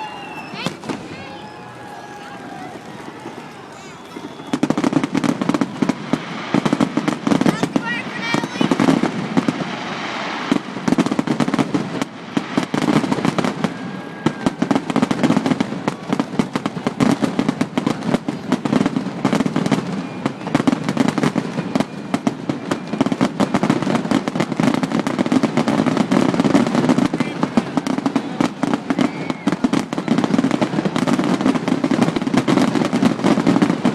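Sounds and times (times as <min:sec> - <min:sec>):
fireworks cracking and popping: 0:00.0 - 0:33.9.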